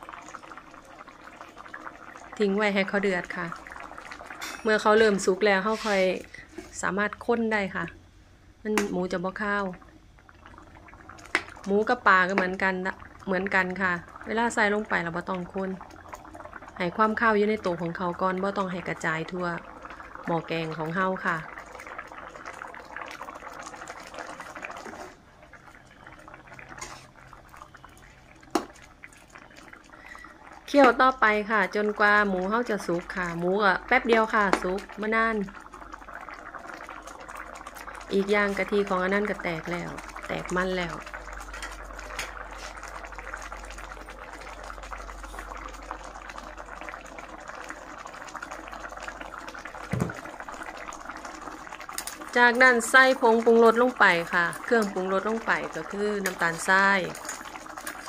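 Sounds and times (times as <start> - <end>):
curry bubbling in a pan: 0.0 - 58.0.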